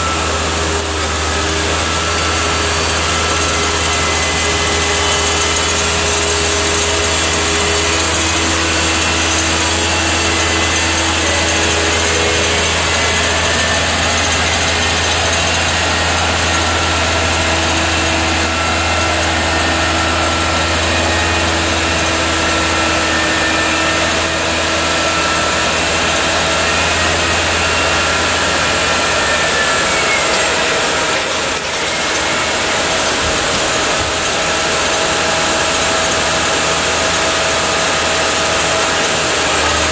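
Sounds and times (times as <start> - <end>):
crane diesel engine running: 0.0 - 39.9
whining hydraulic tones: 0.0 - 39.9.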